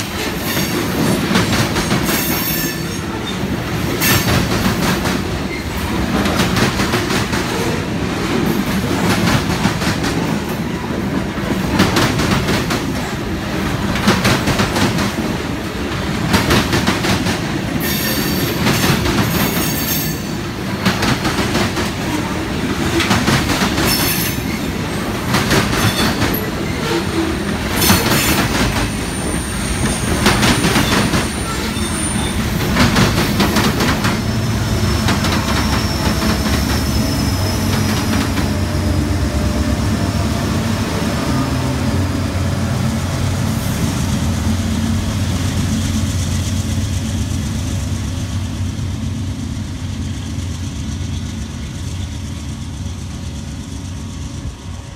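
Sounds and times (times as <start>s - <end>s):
diesel locomotive engine drone: 0.0s - 54.9s.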